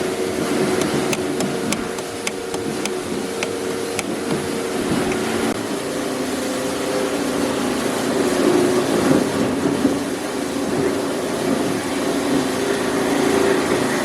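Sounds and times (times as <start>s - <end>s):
motor running with grinding noise: 0.0s - 14.0s.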